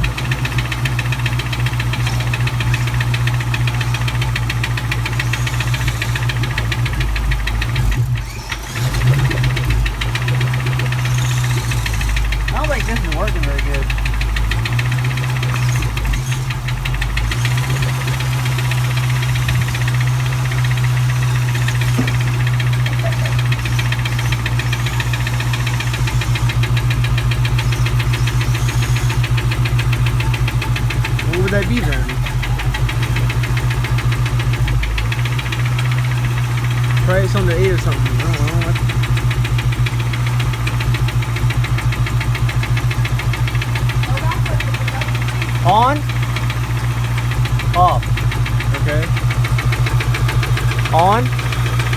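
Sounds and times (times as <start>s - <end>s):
car engine idling: 0.0s - 51.9s
fast ticking knock: 0.0s - 51.9s.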